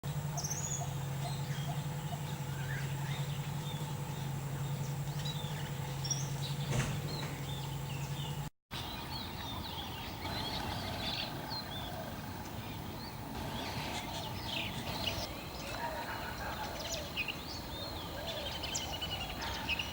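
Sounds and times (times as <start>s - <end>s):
steady low hum: 0.0s - 19.9s
small birds chirping: 0.1s - 19.9s.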